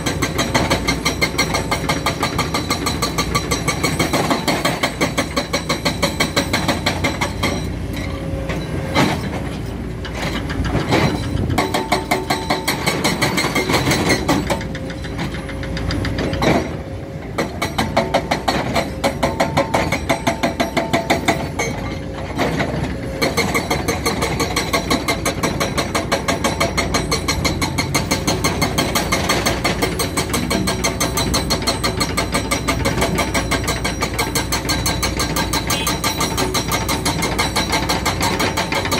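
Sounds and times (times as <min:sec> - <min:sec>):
sharp knocks of excavator digging: 0:00.0 - 0:07.7, 0:08.5 - 0:38.9
heavy diesel engines pulsing: 0:00.0 - 0:38.9.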